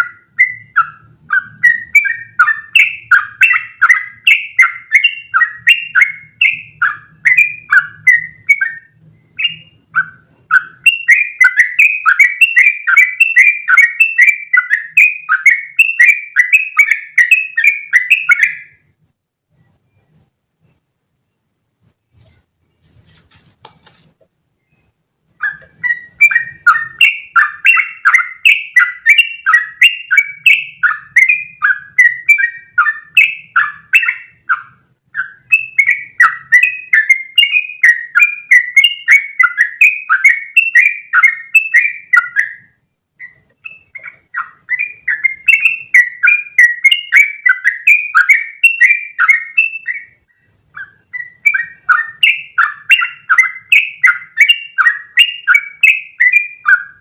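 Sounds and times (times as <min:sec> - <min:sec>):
bird singing chattering notes: 0:00.0 - 0:18.9, 0:24.6 - 0:57.0.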